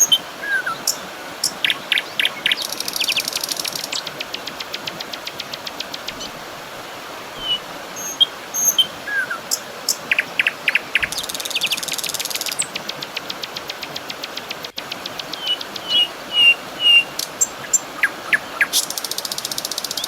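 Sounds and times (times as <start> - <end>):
fast ticking bird trills: 0.0 - 6.4, 7.4 - 20.0
birds chirping: 0.0 - 6.6, 7.3 - 20.0
background hiss: 0.0 - 20.0.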